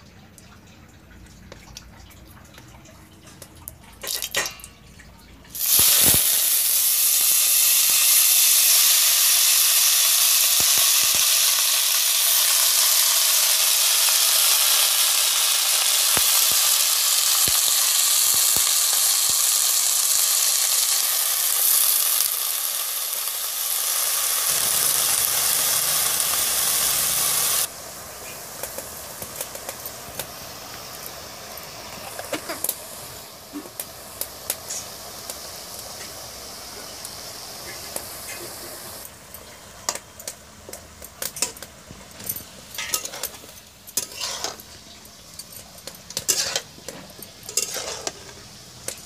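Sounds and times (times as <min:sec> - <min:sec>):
cabbage sizzling in hot oil: 0:05.5 - 0:49.0.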